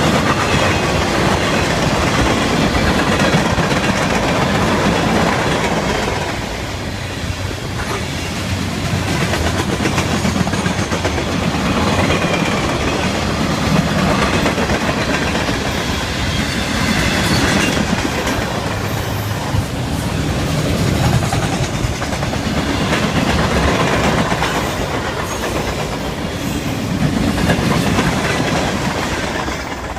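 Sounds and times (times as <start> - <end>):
train cars rumbling past: 0.0 - 29.9.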